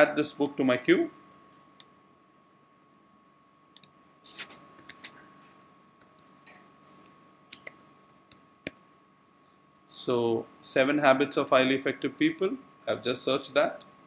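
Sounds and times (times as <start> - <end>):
faint high-pitched hum: 0.0 - 14.0.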